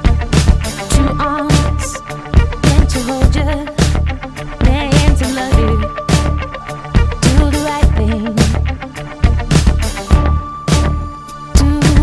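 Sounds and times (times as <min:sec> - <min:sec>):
funk music with drums and guitar: 0:00.0 - 0:12.0.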